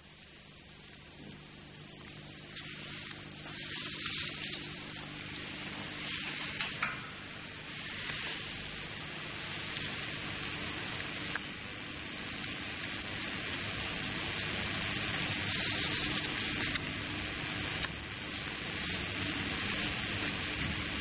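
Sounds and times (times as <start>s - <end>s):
low mains hum: 0.0s - 21.0s
tape hiss: 0.0s - 21.0s.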